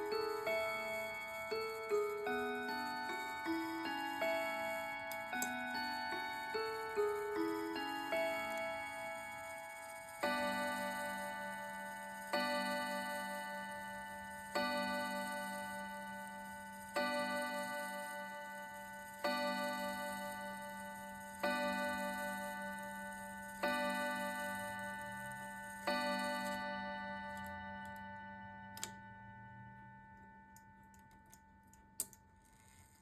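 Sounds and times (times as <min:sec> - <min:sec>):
clock striking the hour: 0:00.0 - 0:30.5.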